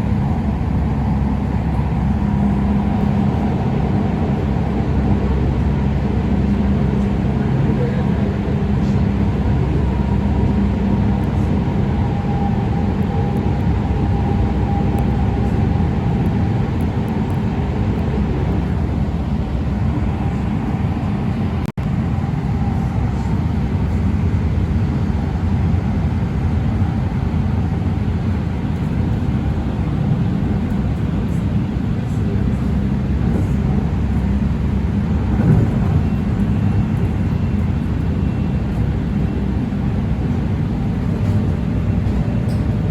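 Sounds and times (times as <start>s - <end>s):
wheels rumbling on track: 0.0s - 42.9s.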